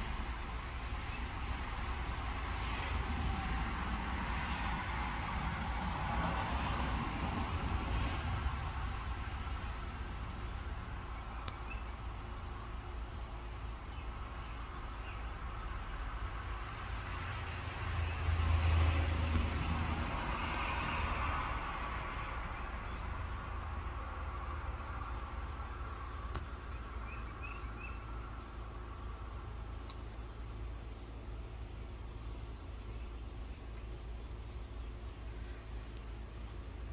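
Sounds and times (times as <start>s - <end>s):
insect chirping: 0.0s - 36.9s.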